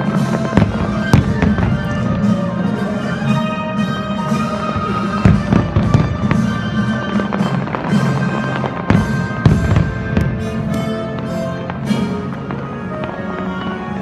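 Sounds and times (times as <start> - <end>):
accompanying music: 0.0 - 14.0
fireworks bangs and crackles: 0.0 - 14.0.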